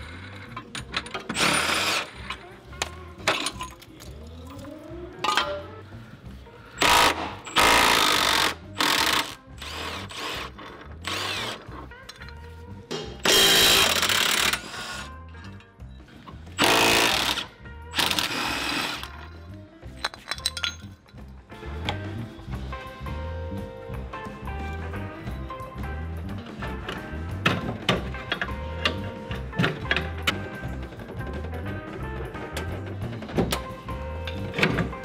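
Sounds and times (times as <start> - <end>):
background music with low beat: 0.0 - 35.0.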